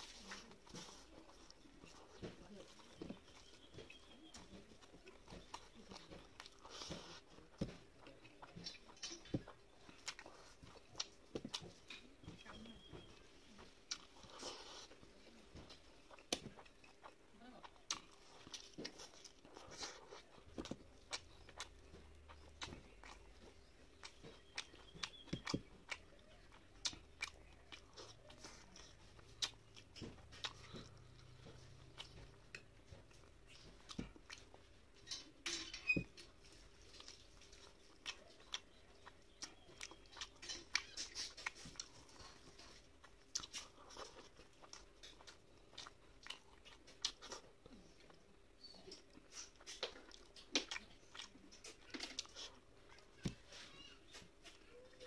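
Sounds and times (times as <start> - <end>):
chewing and mouth smacks: 0.0 - 55.0
fingers squishing rice on plate: 0.0 - 55.0.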